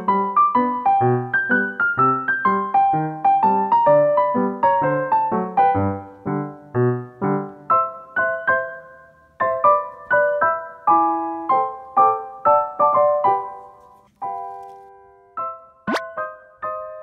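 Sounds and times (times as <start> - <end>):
light piano melody: 0.0 - 17.0.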